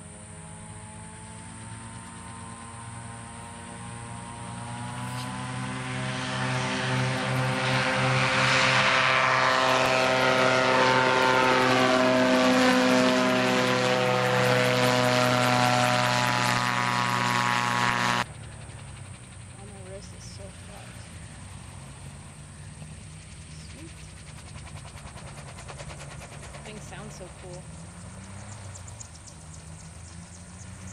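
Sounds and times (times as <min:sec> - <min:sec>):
aircraft engine and propeller droning: 0:00.0 - 0:30.9.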